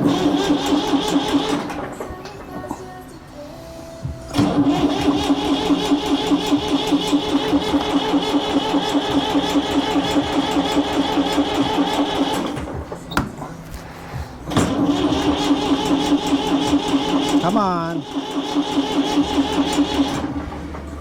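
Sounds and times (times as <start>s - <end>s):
tractor engine cranking: 0.0s - 3.1s, 4.1s - 21.0s.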